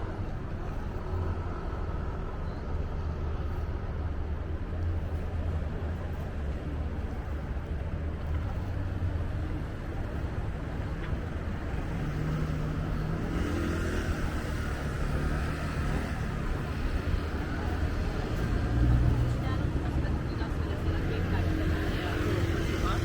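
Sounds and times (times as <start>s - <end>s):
low rumble of city traffic: 0.0s - 23.0s.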